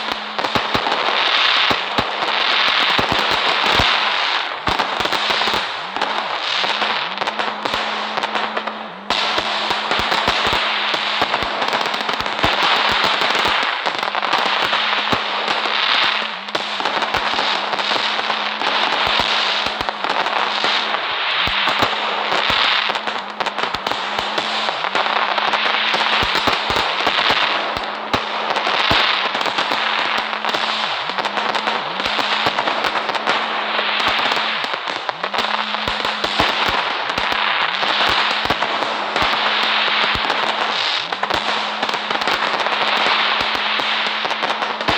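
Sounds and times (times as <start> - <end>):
fireworks crackling and popping: 0.0 - 44.9.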